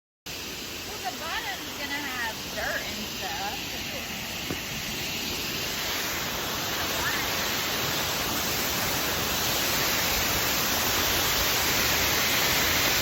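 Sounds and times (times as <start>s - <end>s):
water rushing: 0.3s - 13.0s.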